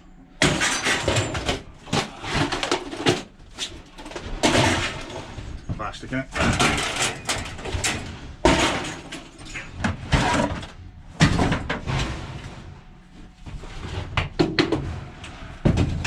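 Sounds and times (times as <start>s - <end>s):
scrap metal bangs and clanks: 0.4s - 16.0s.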